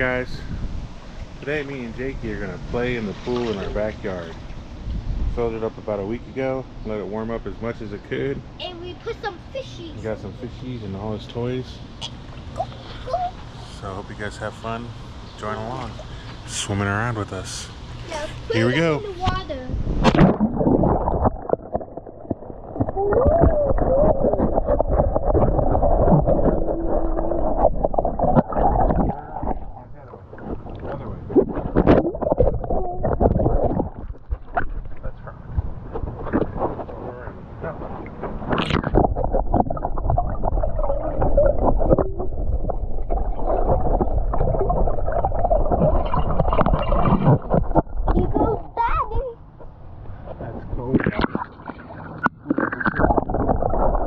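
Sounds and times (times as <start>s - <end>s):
pool water sloshing and splashing: 2.7s - 5.1s, 11.5s - 14.8s, 15.4s - 54.0s.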